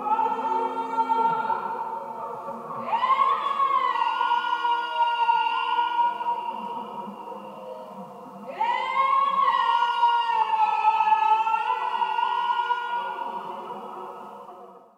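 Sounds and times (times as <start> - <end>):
sustained droning tones: 0.0 - 14.9.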